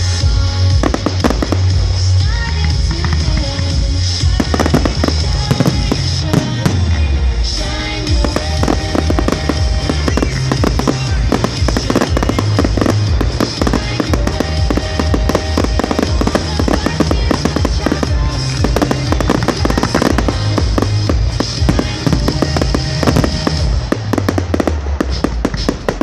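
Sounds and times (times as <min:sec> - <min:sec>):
fireworks bangs and crackles: 0:00.0 - 0:26.0
loud music with heavy bass: 0:00.0 - 0:26.0.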